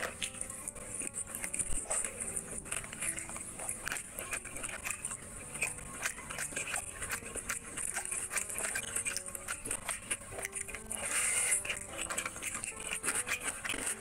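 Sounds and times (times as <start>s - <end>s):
chewing and mouth clicks: 0.0s - 14.0s
fingers squishing rice: 0.0s - 14.0s.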